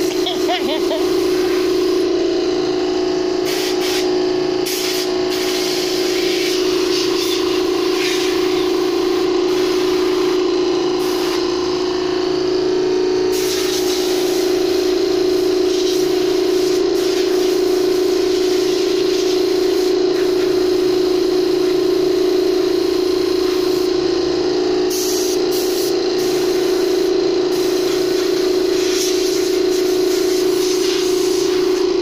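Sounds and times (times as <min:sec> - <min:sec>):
air compressor humming with hiss: 0:00.0 - 0:32.0.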